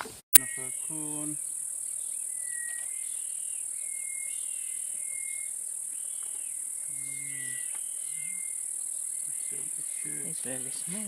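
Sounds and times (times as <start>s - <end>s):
bird whistling calls: 0.4s - 1.4s, 2.3s - 11.0s
high-pitched insect drone: 0.4s - 11.0s.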